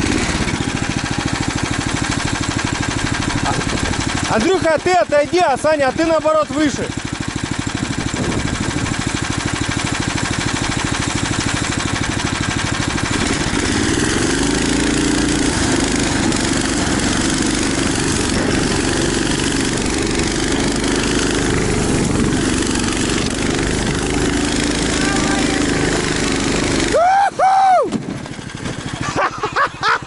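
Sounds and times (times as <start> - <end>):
small engine chugging and revving: 0.0 - 30.0.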